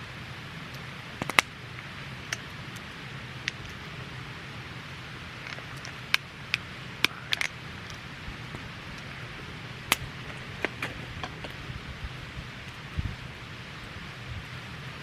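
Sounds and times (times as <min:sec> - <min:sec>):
wood fire crackling: 0:00.2 - 0:15.0.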